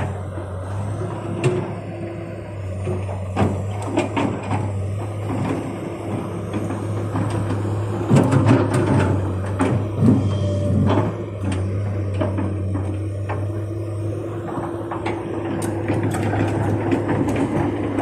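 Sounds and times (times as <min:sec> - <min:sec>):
excavator diesel engine running: 0:00.0 - 0:18.0
metal clanks and knocks: 0:02.8 - 0:18.0.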